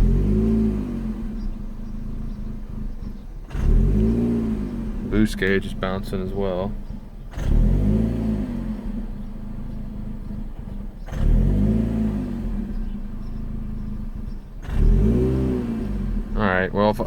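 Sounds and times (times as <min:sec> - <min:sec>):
car engine surging idle: 0:00.0 - 0:17.0.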